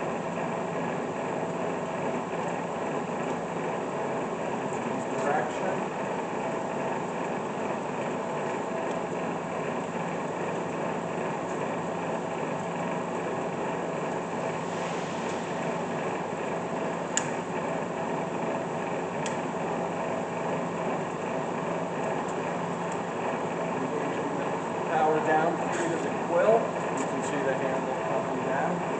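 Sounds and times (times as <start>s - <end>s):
milling machine humming: 0.0s - 28.9s.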